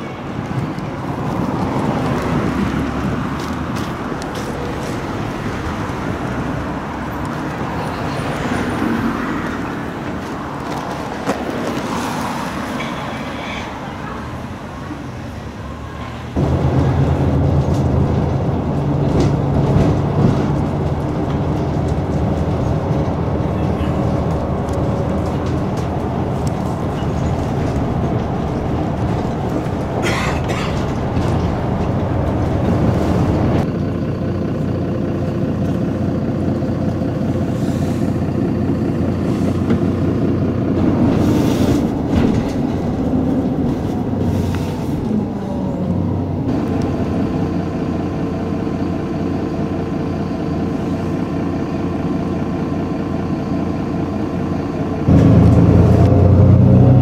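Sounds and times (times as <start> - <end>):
bus engine and road noise: 0.0 - 57.0.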